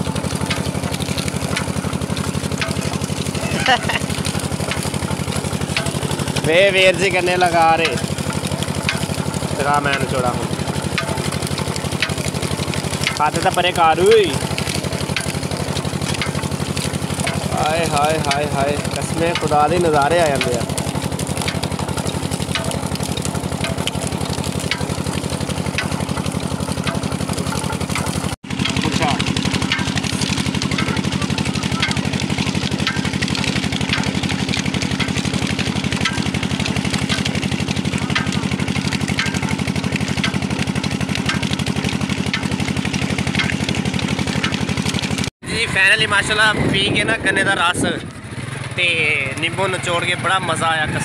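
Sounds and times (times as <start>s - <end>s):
engine thudding rapidly: 0.0s - 50.9s.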